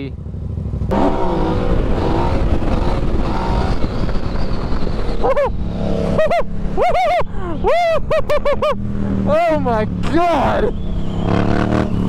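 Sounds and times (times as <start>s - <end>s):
motorcycle engine at full throttle: 0.1s - 7.5s, 8.7s - 12.0s.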